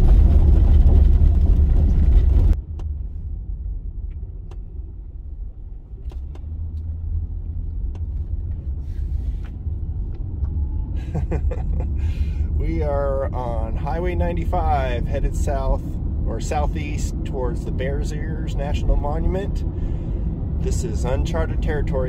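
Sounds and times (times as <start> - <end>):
rough road rumble in car: 0.0 - 22.0
steady low road rumble: 0.0 - 22.0.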